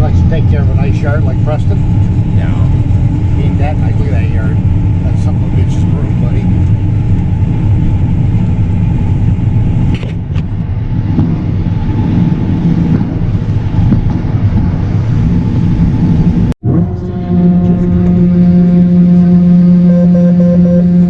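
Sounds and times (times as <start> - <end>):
humming drone of level tones: 0.0 - 21.0
vehicle engine rumbling: 0.0 - 21.0.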